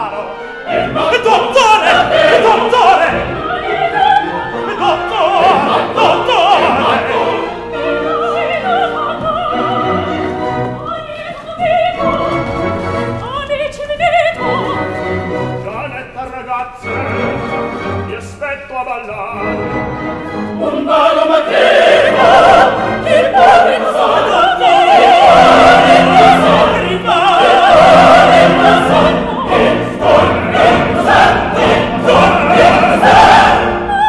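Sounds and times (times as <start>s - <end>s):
opera voices and chorus singing: 0.0s - 34.0s
orchestra: 0.0s - 34.0s.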